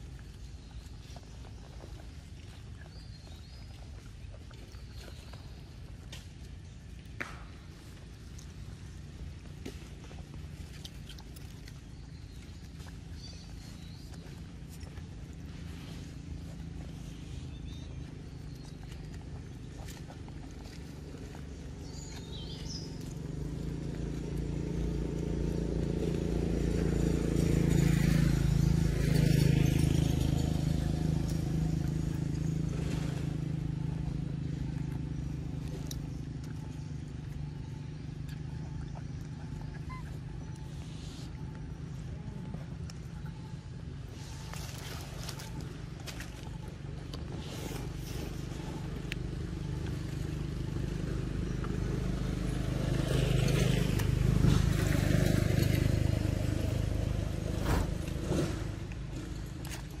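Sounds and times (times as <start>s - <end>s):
motor engine humming: 0.0s - 60.0s.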